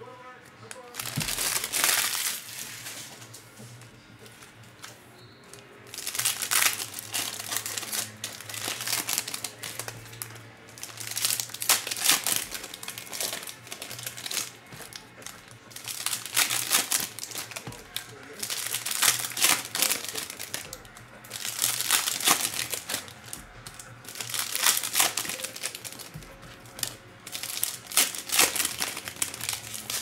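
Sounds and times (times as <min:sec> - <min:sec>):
foil wrappers crinkling: 0:00.6 - 0:03.4, 0:04.2 - 0:30.0.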